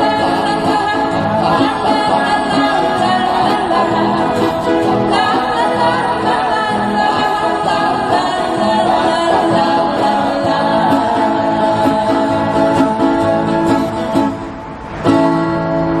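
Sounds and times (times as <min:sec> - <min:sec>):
person singing: 0:00.0 - 0:14.4
acoustic guitar: 0:00.0 - 0:16.0.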